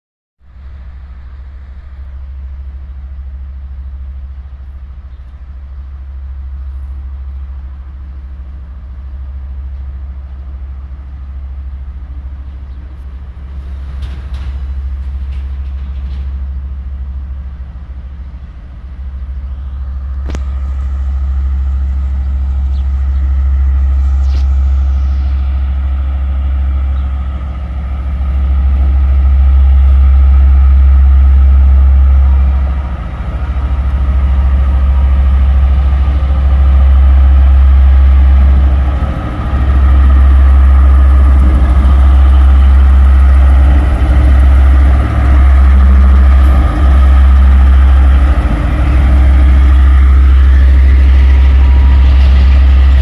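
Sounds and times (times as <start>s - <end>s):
train locomotive droning: 0.4s - 53.0s.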